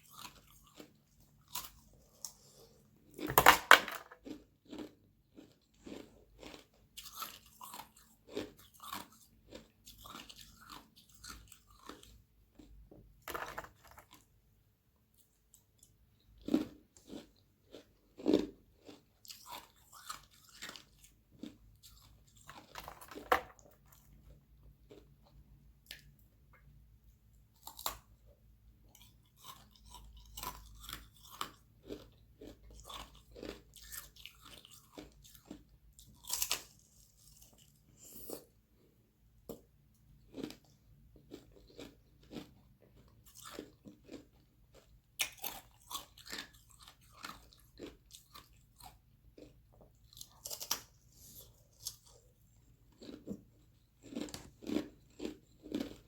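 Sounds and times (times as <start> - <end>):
chewing and crunching ice: 0.0 - 14.3, 15.2 - 26.2, 27.5 - 38.9, 39.5 - 56.0.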